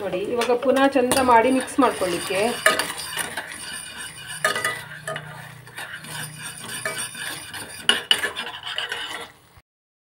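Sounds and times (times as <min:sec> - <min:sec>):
utensil stirring paste in pan: 0:00.0 - 0:09.6
utensil clinking against pan: 0:00.4 - 0:09.2.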